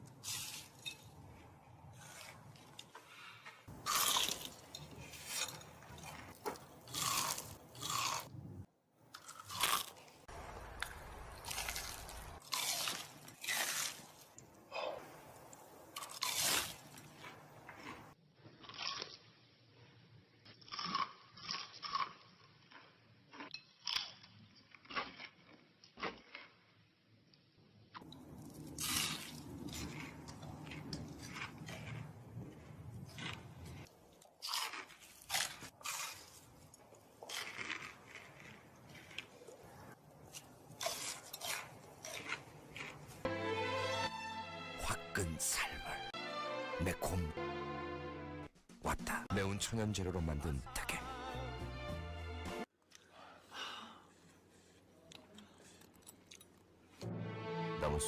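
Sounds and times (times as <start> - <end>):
people chewing crunchy food: 0.0 - 43.3, 50.7 - 57.0.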